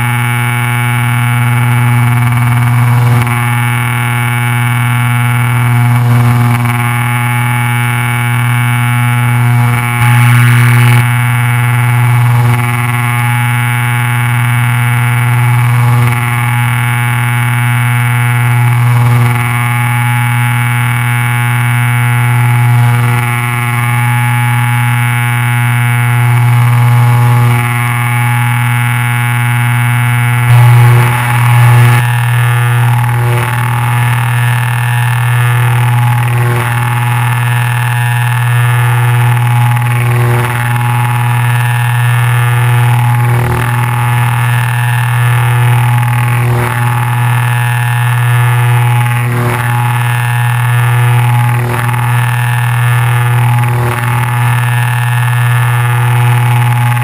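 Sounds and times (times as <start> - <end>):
buzzy camera mount vibration: 0.0 - 57.0.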